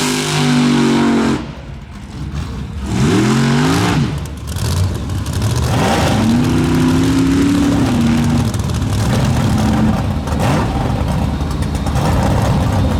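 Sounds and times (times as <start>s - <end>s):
monster truck engine revving: 0.0s - 12.9s.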